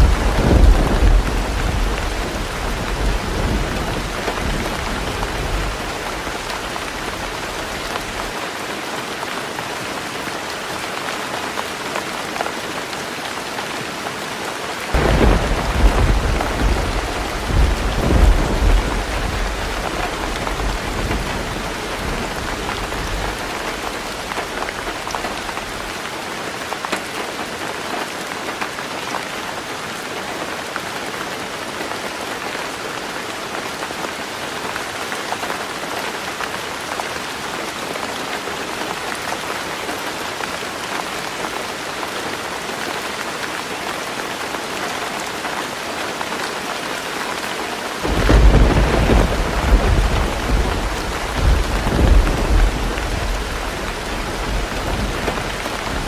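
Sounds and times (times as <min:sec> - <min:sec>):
heavy rain on a roof: 0:00.0 - 0:56.0.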